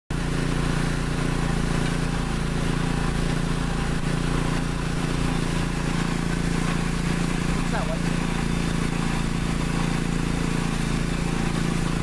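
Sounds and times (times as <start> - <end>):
engine running: 0.1 - 12.0.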